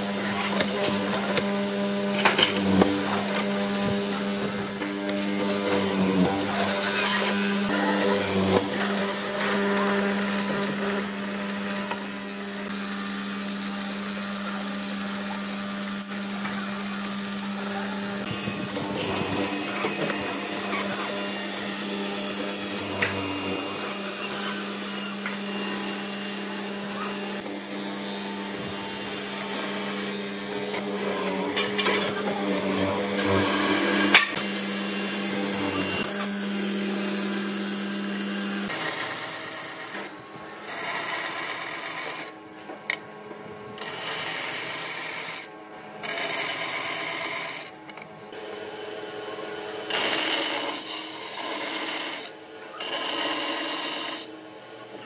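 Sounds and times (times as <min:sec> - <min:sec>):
bandsaw cutting wood: 0:00.0 - 0:43.0, 0:43.7 - 0:54.4
mortiser motor humming: 0:00.0 - 0:55.0.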